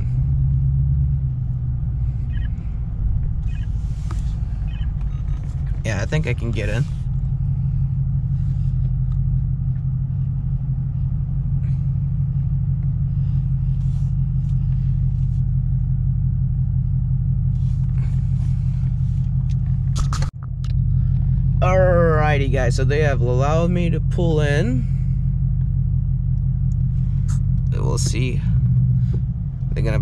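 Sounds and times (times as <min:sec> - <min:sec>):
car engine idling in cabin: 0:00.0 - 0:30.0.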